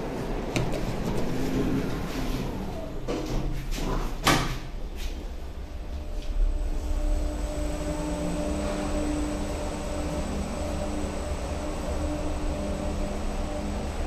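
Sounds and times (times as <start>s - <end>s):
lift drive hum with high whine: 0.0s - 3.5s, 4.7s - 14.0s.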